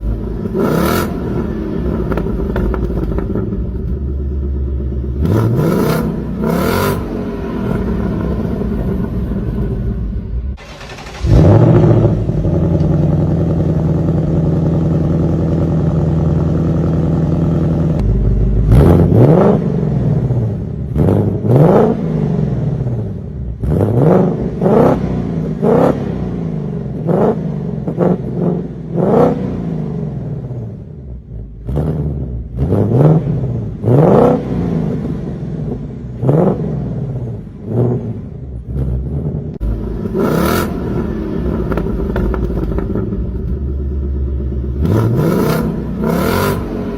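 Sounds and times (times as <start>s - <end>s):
car exhaust idling: 0.0s - 21.6s, 30.2s - 46.9s
engine revving: 0.0s - 46.9s.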